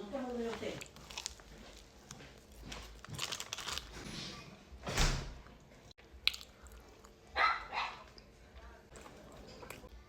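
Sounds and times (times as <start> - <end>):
pizza being chewed: 0.3 - 4.4, 5.5 - 7.4, 8.0 - 10.0.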